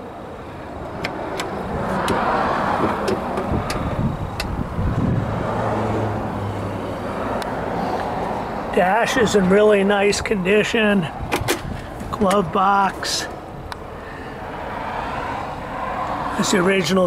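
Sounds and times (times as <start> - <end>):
car passing: 0.0 - 17.0.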